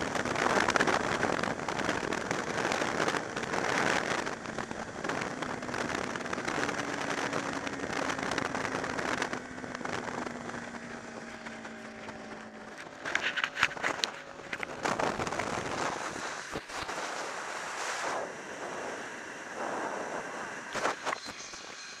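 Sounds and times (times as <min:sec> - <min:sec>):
wind buffeting microphone: 0:00.0 - 0:21.3
motorcycle engine: 0:00.0 - 0:22.0.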